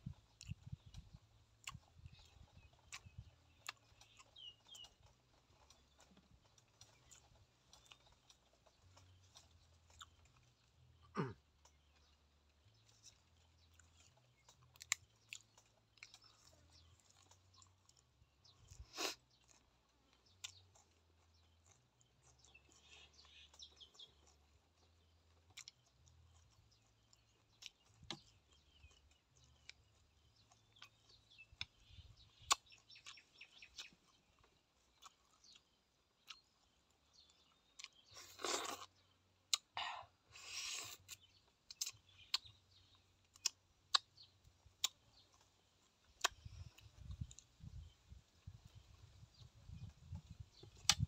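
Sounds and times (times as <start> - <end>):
chewing with wet mouth clicks: 0.0 - 51.0
small birds chirping: 0.0 - 51.0.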